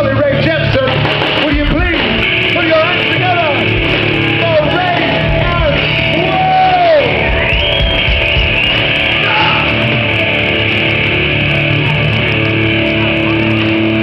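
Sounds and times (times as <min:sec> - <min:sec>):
electric guitar riffs: 0:00.0 - 0:14.0
rock band playing live: 0:00.0 - 0:14.0.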